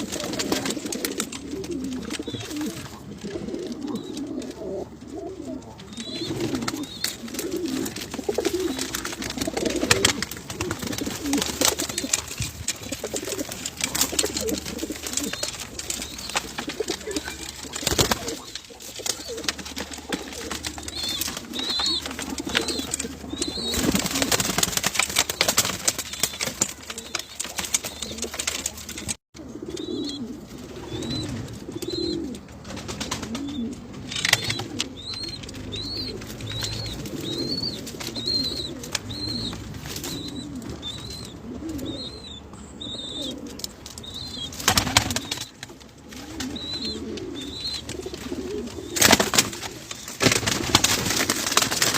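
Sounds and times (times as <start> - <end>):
knocks and clatter among birds: 0.0 - 42.1, 43.2 - 51.9
pigeons cooing: 0.0 - 51.9.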